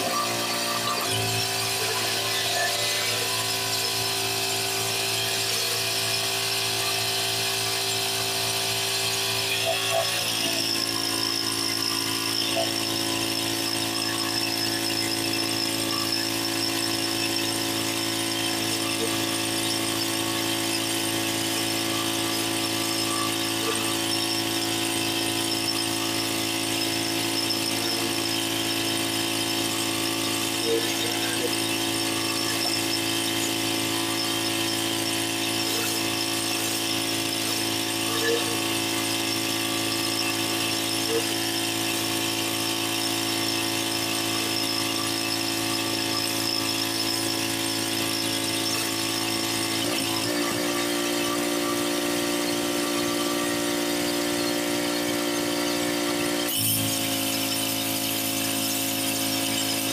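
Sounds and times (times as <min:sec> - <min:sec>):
pressure washer engine running: 0:00.0 - 0:59.9.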